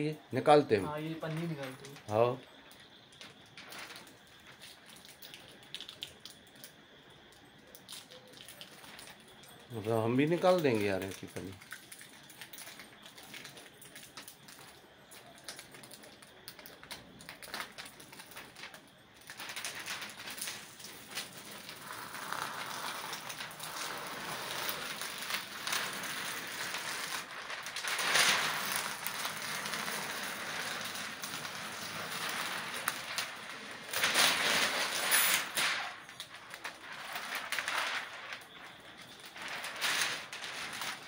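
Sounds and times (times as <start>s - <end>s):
plastic film peeling and crackling: 0.4s - 6.8s, 7.6s - 41.0s.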